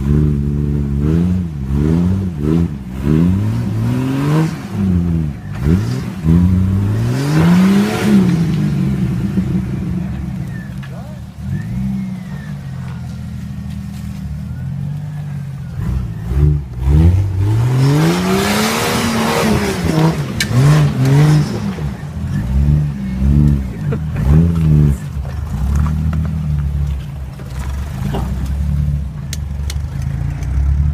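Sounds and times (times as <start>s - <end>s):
engine revving under load: 0.0s - 30.9s.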